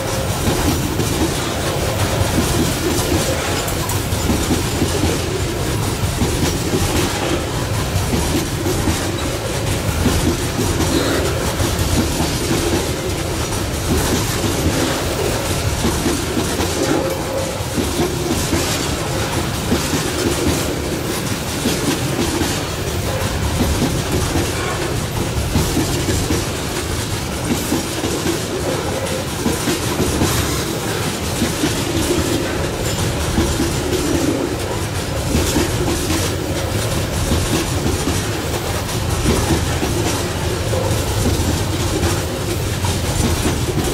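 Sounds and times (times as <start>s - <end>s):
freight train rumbling past: 0.0s - 43.9s
wheels clicking over rail joints: 0.0s - 43.9s.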